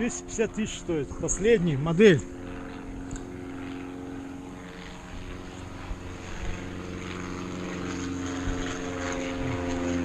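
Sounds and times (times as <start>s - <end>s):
steady mechanical drone: 0.0s - 10.0s.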